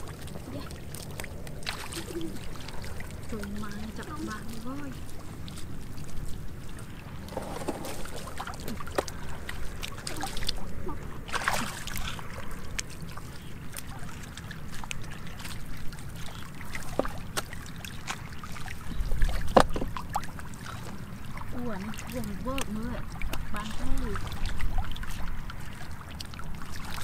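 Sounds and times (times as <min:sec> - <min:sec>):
splashing in muddy water: 0:00.0 - 0:27.0.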